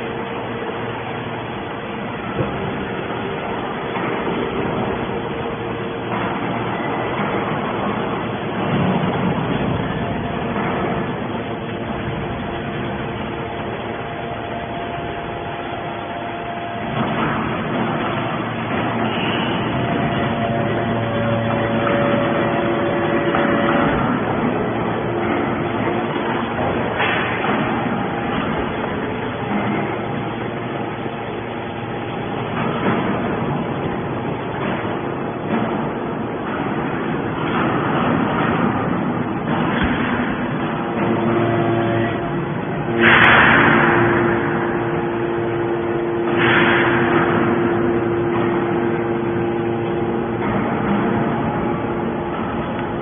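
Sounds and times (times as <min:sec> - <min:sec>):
hydraulic baler running: 0:00.0 - 0:53.0.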